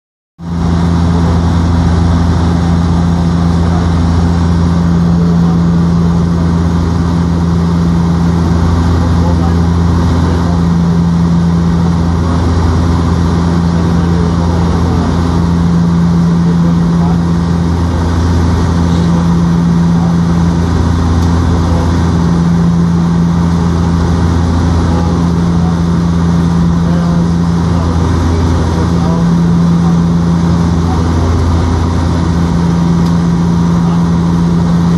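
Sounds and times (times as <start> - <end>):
airplane engine hum in cabin: 0.4 - 34.9.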